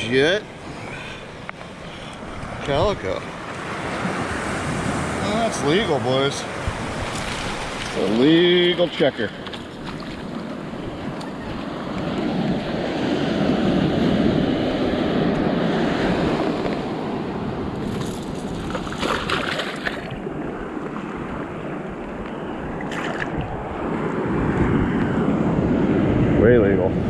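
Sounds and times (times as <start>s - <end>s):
surf washing among rocks: 0.0s - 27.0s.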